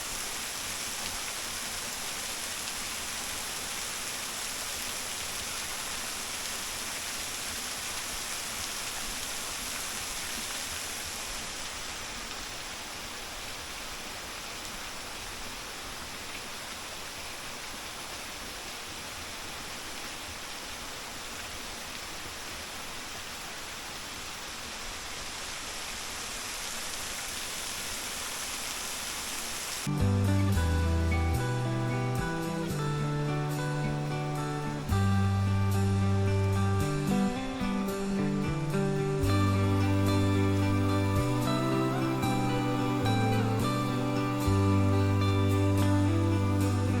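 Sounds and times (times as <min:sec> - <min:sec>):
small waterfall splashing: 0:00.0 - 0:30.1, 0:32.2 - 0:47.0.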